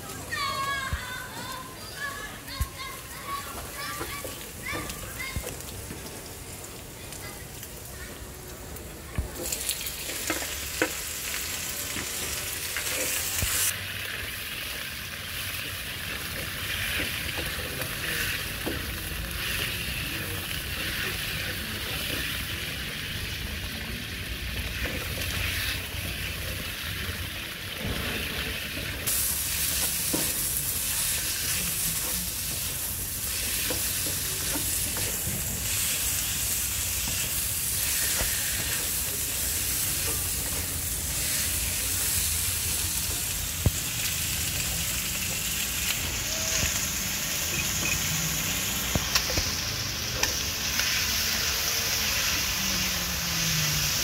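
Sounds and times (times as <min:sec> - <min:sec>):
chicken sizzling in hot oil: 0:02.5 - 0:54.0.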